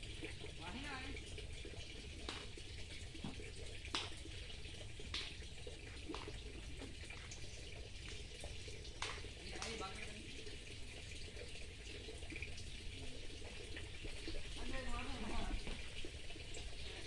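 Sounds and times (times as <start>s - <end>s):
trickle of running water: 0.0s - 17.0s
water drip clicks: 0.0s - 17.0s.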